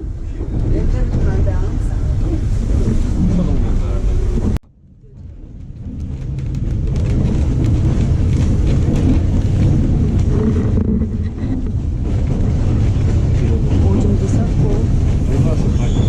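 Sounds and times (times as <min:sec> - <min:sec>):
vehicle rumble: 0:00.0 - 0:16.0
wind on microphone: 0:00.0 - 0:16.0.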